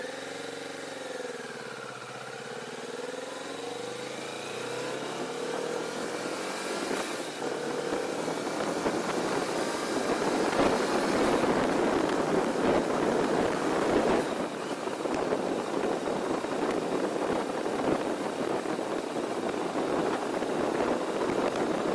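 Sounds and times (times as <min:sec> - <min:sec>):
motorcycle engine accelerating: 0:00.0 - 0:21.9
wind rushing over microphone: 0:04.2 - 0:21.9.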